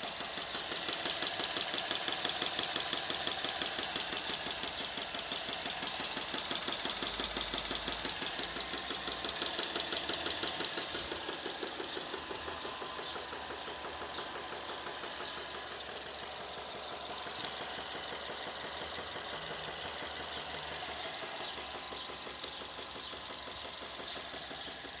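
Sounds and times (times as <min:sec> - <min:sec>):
engine idling with a knock: 0:00.0 - 0:25.0.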